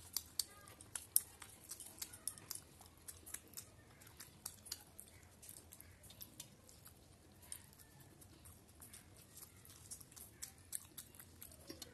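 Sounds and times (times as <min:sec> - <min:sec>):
person chewing food wetly: 0:00.0 - 0:11.9.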